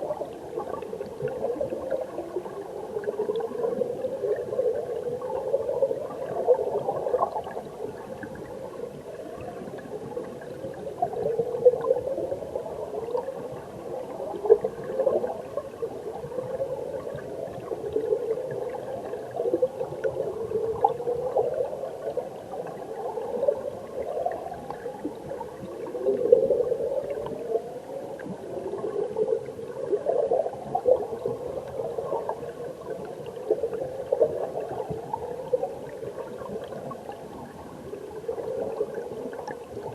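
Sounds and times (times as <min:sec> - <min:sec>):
stream water gurgling underwater: 0:00.0 - 0:39.9.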